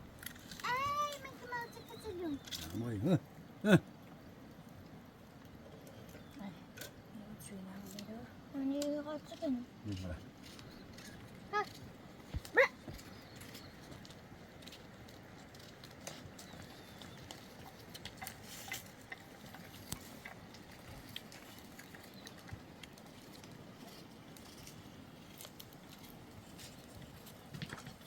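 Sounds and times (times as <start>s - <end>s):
low steady background: 0.0s - 28.0s.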